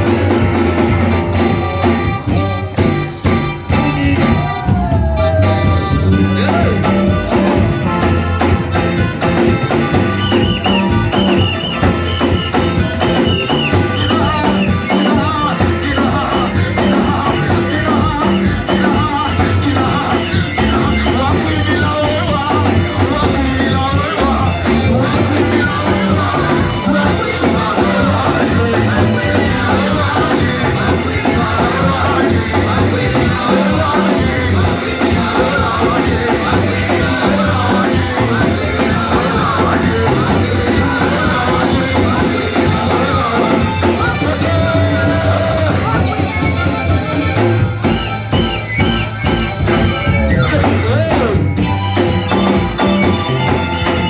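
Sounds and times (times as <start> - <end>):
band playing: 0.0 - 54.0
voices singing: 0.0 - 54.0.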